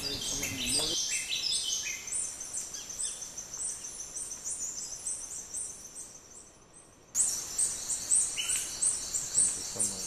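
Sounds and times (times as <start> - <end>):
birds chirping: 0.0 - 10.0
insect buzz: 0.0 - 10.0.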